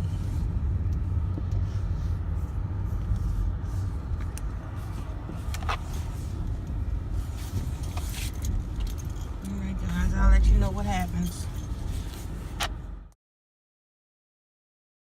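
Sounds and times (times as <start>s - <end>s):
road and engine rumble in car: 0.0s - 13.2s.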